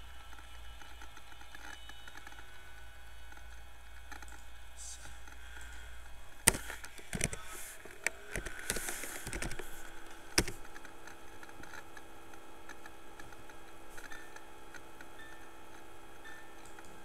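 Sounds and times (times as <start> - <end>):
faint steady hum: 0.0 - 17.0
computer keyboard typing: 0.2 - 17.0.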